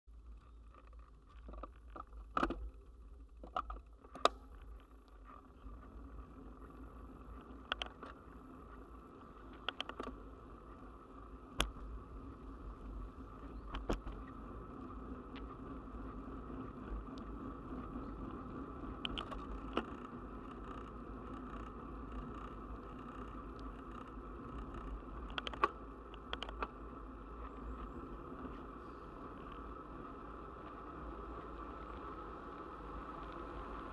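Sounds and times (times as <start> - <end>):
tyre and wind noise: 0.1 - 33.9
bicycle clicks and rattles: 0.2 - 33.9.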